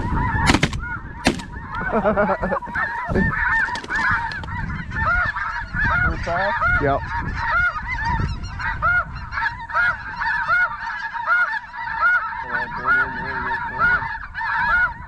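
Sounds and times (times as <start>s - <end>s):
geese yelping calls: 0.0s - 15.0s
wind on microphone: 0.0s - 15.0s.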